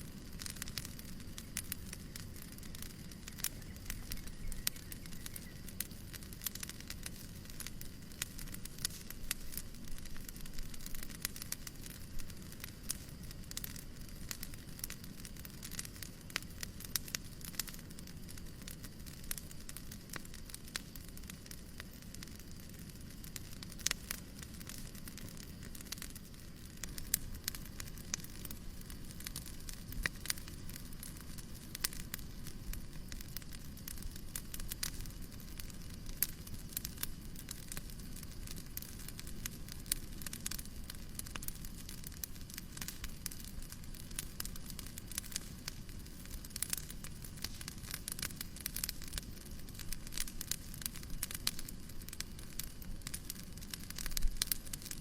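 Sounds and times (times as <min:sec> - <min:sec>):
fireplace crackling and popping: 0:00.0 - 0:55.0
low hiss: 0:00.0 - 0:55.0.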